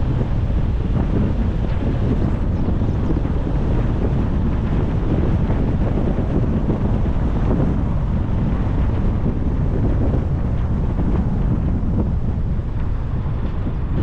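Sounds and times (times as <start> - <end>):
road rumble: 0.0 - 14.0
wind buffeting a moving car: 0.0 - 14.0.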